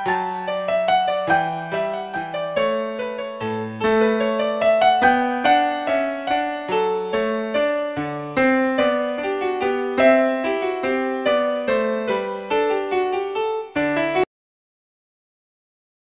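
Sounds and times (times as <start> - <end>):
piano-like keyboard music: 0.0 - 14.3.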